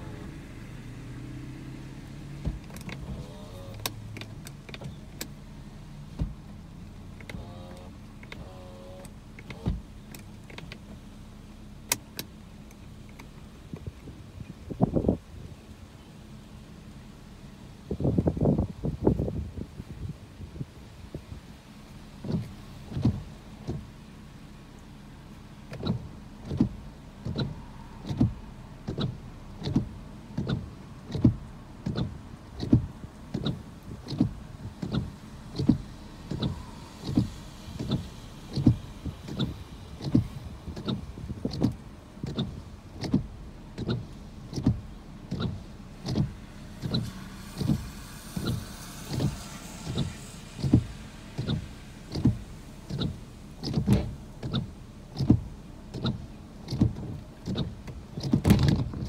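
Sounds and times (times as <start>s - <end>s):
windshield wipers sweeping: 0.0s - 59.0s.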